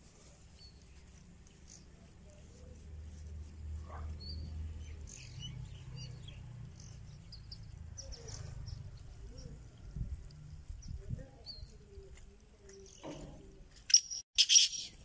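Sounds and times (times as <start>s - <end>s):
birds chirping: 0.3s - 15.0s.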